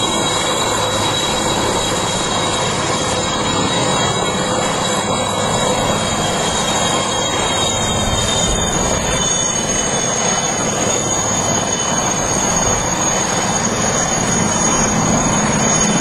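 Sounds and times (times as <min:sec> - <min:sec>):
helicopter turbine whine: 0:00.0 - 0:16.0
rotor and engine rumble: 0:00.0 - 0:16.0.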